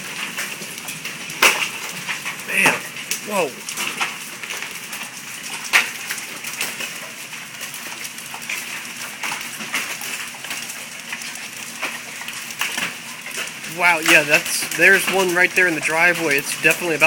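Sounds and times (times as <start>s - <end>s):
hail and rain falling: 0.0s - 17.0s
hailstones cracking on metal gutters: 0.0s - 17.0s.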